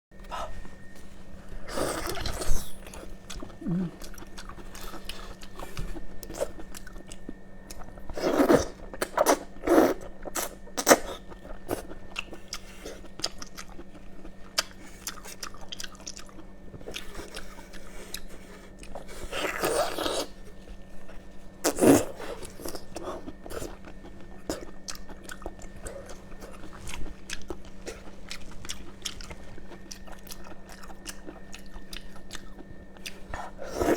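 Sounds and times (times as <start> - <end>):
faint steady hum: 0.1 - 33.9
person chewing crunchy food: 0.3 - 33.9.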